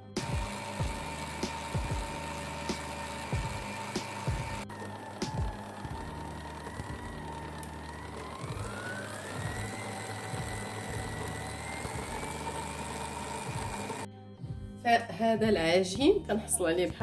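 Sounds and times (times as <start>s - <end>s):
stand mixer churning dough: 0.0s - 14.1s.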